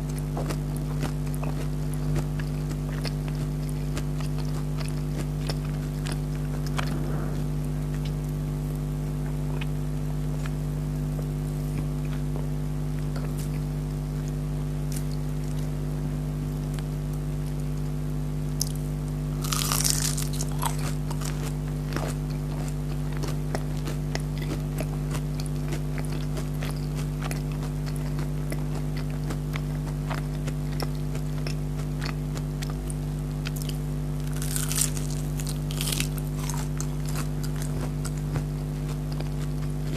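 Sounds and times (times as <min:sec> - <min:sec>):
crunchy chewing: 0:00.0 - 0:17.9, 0:18.6 - 0:39.9
steady low hum: 0:00.0 - 0:39.9.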